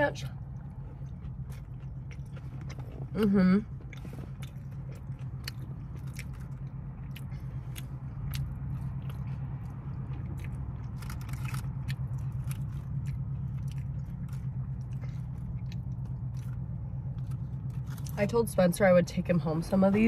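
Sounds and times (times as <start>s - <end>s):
steady low hum: 0.0s - 20.0s
chewing and crunching food: 0.1s - 18.4s.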